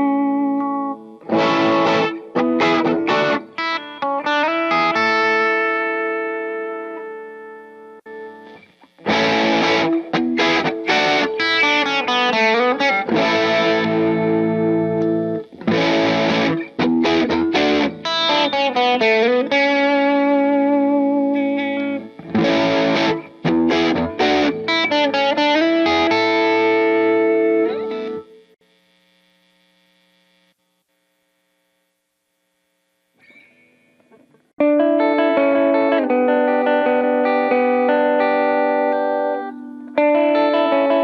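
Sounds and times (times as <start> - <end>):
electric guitar through an amp: 0.0 - 30.4, 33.2 - 41.0.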